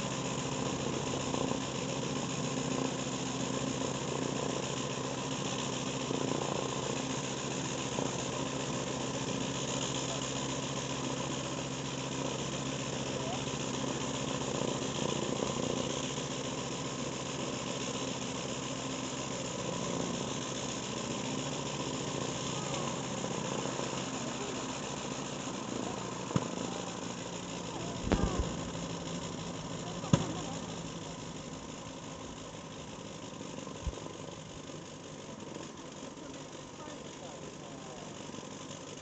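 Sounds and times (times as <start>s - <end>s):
propeller plane engine running: 0.0s - 39.0s.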